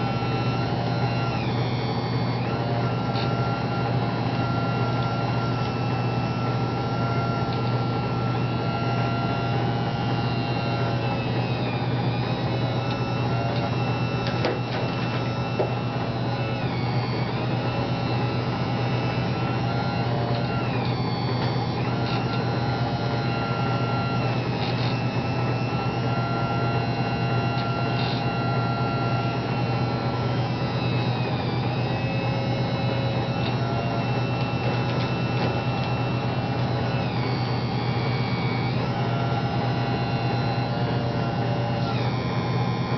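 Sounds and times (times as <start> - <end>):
small electric motors whining: 0.0 - 42.9.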